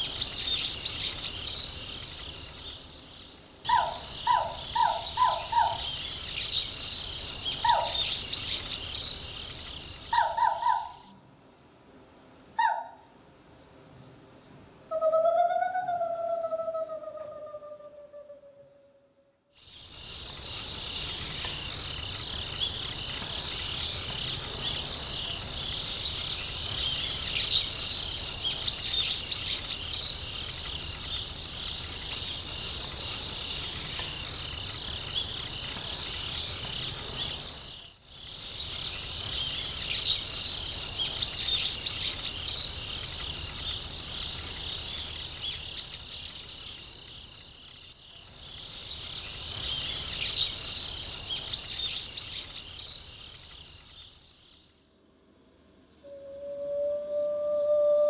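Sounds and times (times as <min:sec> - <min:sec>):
birds chirping: 0:00.0 - 0:11.2, 0:19.6 - 0:56.3
insect chorus: 0:00.0 - 0:11.2, 0:19.5 - 0:58.0.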